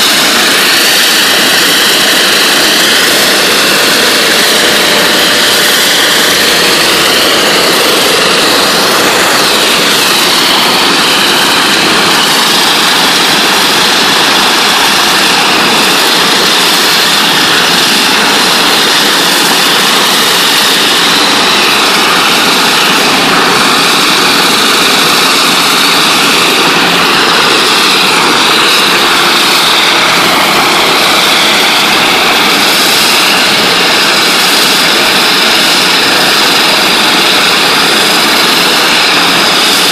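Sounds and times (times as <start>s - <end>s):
high-pressure water spray hiss: 0.0s - 39.9s.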